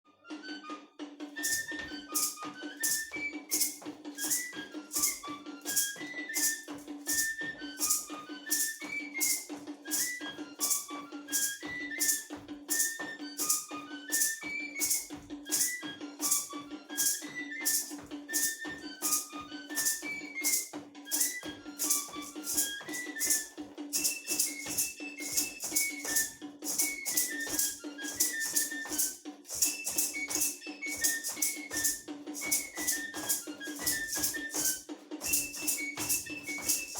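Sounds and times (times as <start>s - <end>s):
whistle-like melody: 0.2s - 36.9s
rattle beat: 1.2s - 36.9s.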